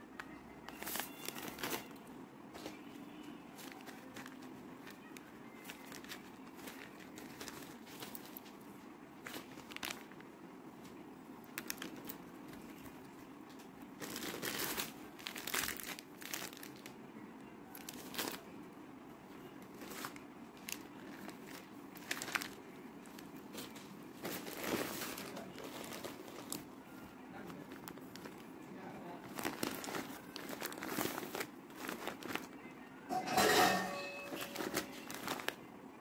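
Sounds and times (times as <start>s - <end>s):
plastic packets crinkling: 0.2s - 8.6s, 9.2s - 10.2s, 11.4s - 16.9s, 17.8s - 18.5s, 19.7s - 35.7s.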